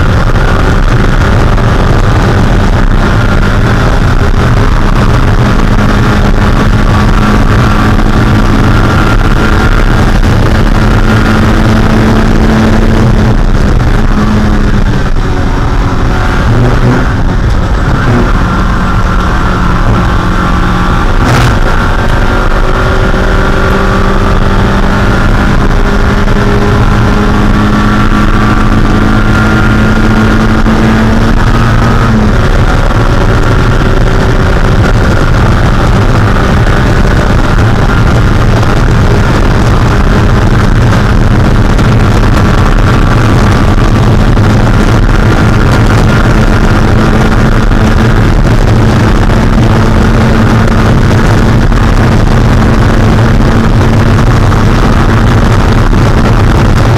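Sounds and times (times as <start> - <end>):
car engine running at high revs: 0.0 - 56.9
wind and road noise: 0.0 - 56.9.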